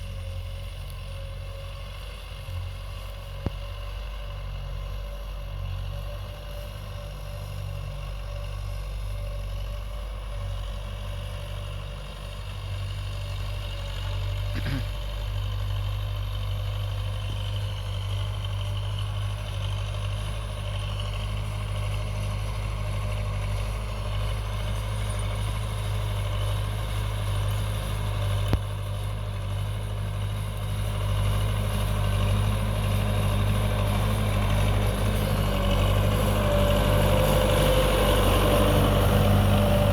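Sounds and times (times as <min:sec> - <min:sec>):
tractor engine humming: 0:00.0 - 0:39.9.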